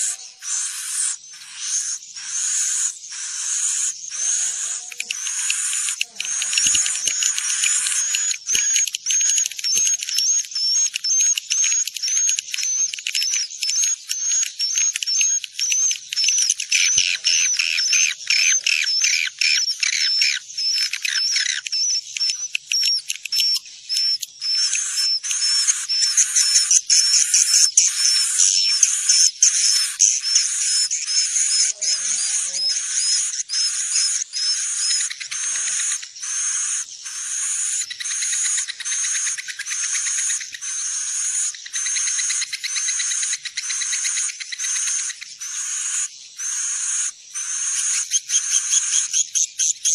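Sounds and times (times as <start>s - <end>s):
swiftlets twittering chirps: 0.0s - 49.9s.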